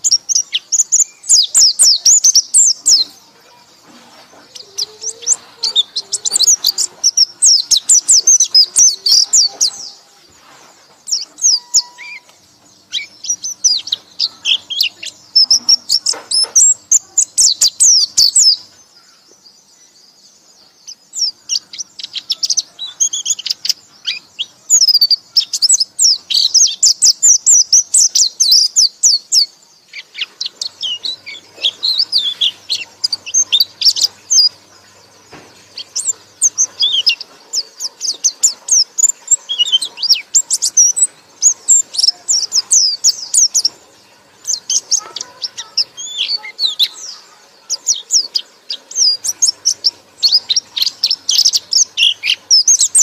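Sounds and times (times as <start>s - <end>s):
bird chattering song: 0.0s - 53.0s.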